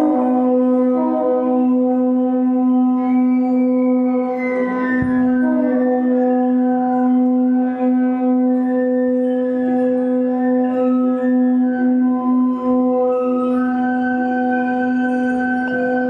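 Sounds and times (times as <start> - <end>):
instrumental folk music with drone: 0.0 - 16.0.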